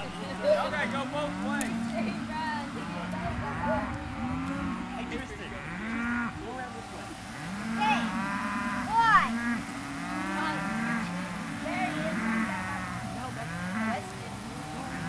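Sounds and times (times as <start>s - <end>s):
low animal calls: 0.0s - 15.0s.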